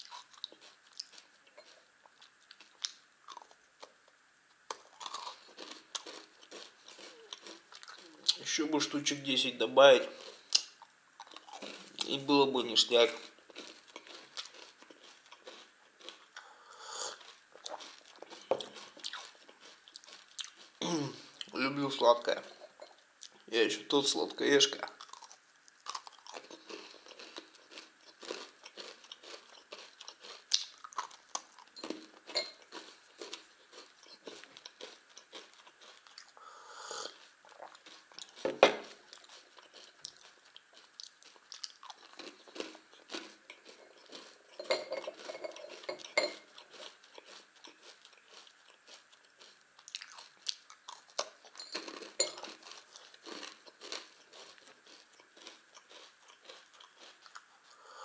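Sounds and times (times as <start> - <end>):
person crunching cereal bars: 0.0 - 4.0, 4.7 - 8.6, 9.4 - 16.5, 17.1 - 21.6, 24.8 - 36.4, 37.1 - 57.8.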